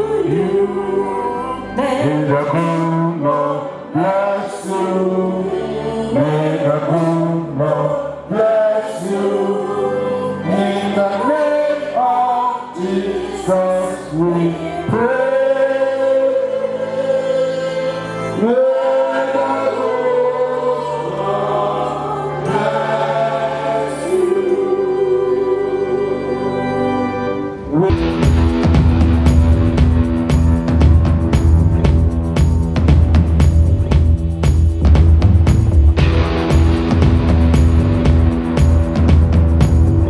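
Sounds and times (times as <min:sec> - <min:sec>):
congregation singing gospel song: 0:00.0 - 0:34.8.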